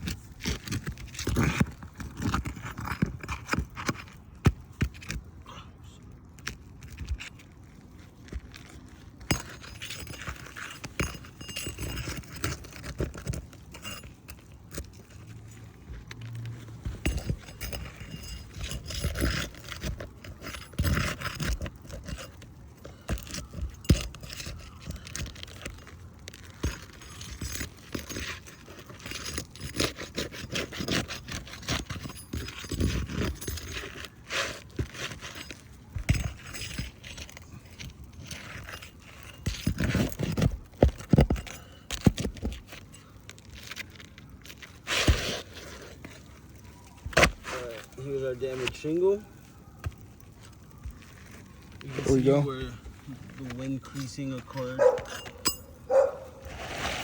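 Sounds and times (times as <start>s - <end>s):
metal tools scraping shingles: 0.0s - 4.4s, 6.8s - 57.0s.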